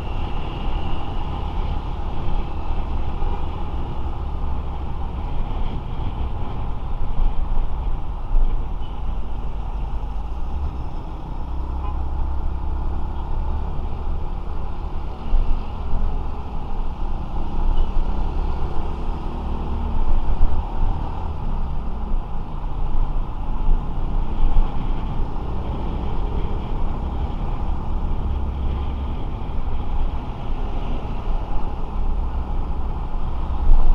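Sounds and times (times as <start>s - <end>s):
traffic noise: 0.0s - 33.9s
wind rumble on microphone: 0.0s - 33.9s.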